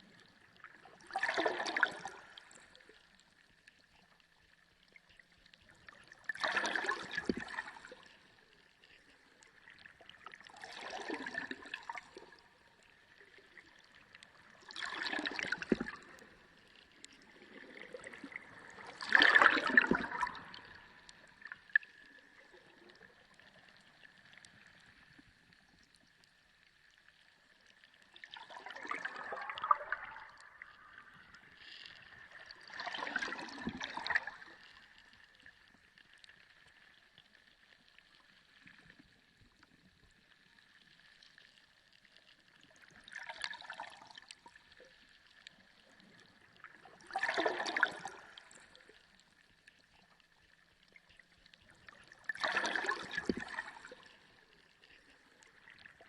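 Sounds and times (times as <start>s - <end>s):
water gurgling underwater: 0.0s - 36.0s, 40.2s - 56.0s.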